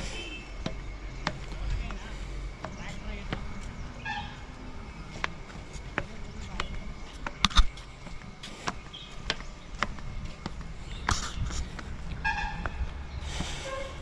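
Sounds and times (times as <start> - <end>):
footsteps clanking on metal deck: 0.0 - 14.0.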